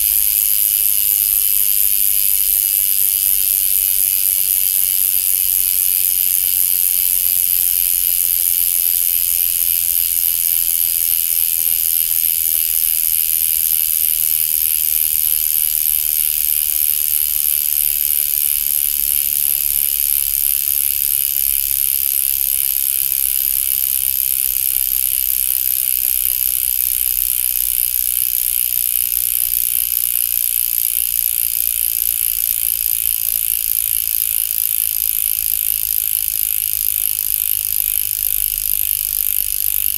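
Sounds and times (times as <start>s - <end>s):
bicycle hub ratchet buzzing: 0.0s - 39.9s.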